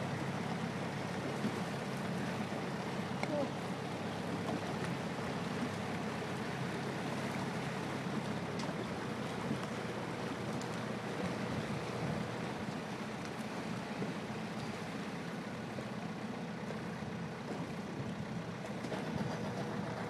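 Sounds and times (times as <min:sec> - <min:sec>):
boat engine running: 0:00.0 - 0:20.0
water washing along hull: 0:00.0 - 0:20.0.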